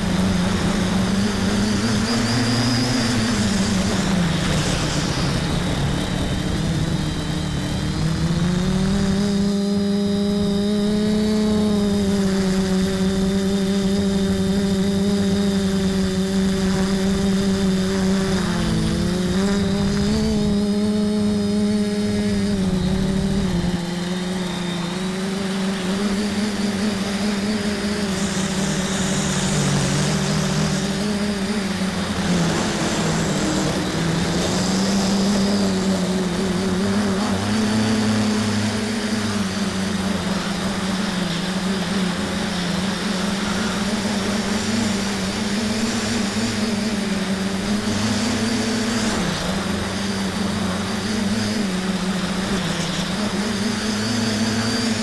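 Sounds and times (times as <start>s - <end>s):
multicopter motors buzzing: 0.0s - 55.0s.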